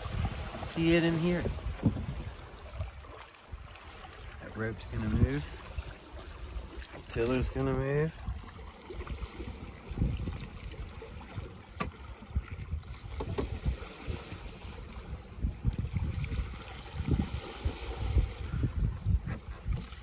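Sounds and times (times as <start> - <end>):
water rushing past a hull: 0.0 - 20.0
wind buffeting microphone: 0.0 - 20.0.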